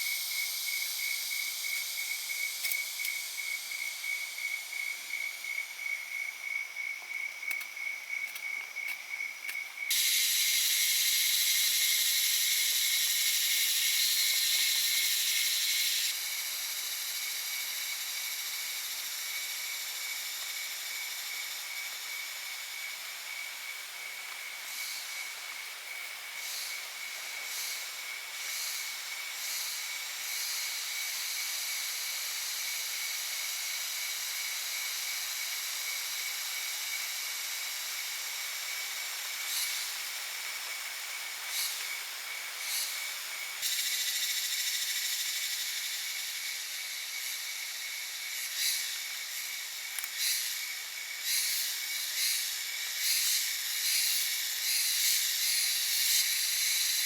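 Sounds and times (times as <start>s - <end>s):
insects chorus: 0.0s - 57.0s.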